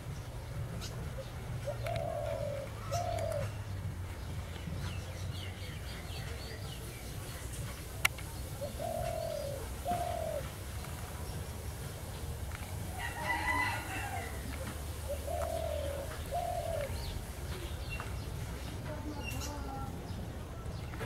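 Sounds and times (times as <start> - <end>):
dove cooing: 0.0 - 19.9.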